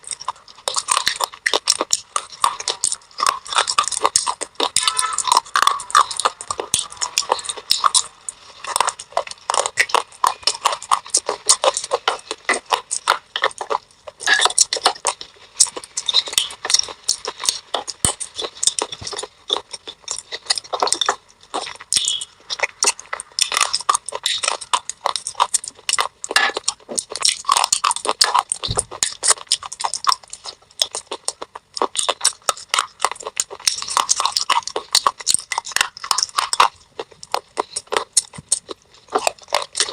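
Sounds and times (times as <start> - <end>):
chewing brittle clay pieces: 0.0 - 39.9.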